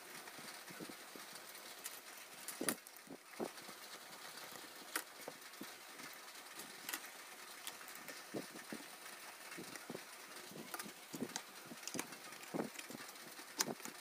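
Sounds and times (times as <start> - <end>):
small metal parts clicking: 0.1 - 14.0.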